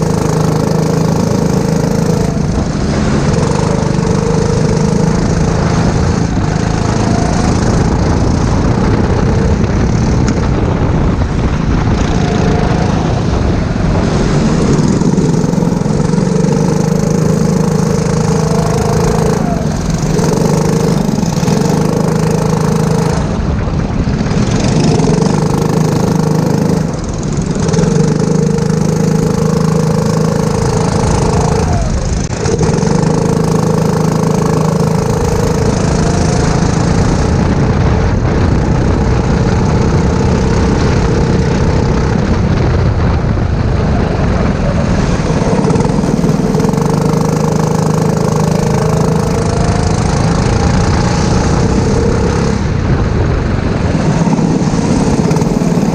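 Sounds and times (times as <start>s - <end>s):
kart engine running hard: 0.0s - 55.9s.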